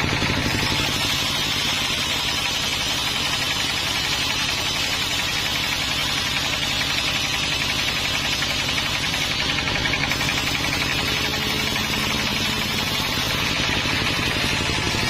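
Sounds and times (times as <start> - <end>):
motor-driven saw pulsing: 0.0 - 15.0.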